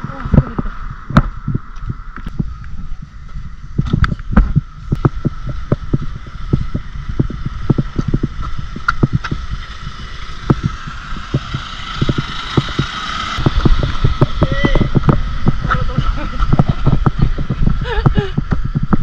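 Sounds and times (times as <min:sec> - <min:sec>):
steady high hum: 0:00.0 - 0:19.0
wind rumbling on microphone: 0:00.0 - 0:19.0.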